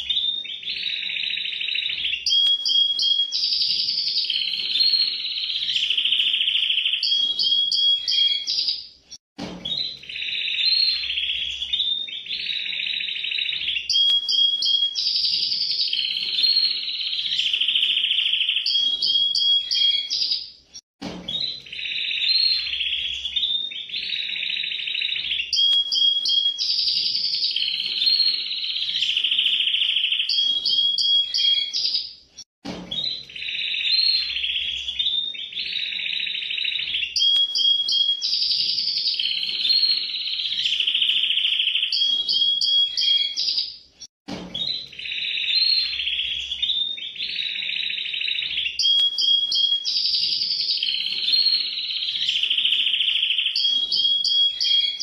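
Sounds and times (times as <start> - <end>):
canary singing trills: 0.0 - 8.9, 9.7 - 20.5, 21.3 - 32.2, 33.0 - 43.8, 44.6 - 55.0.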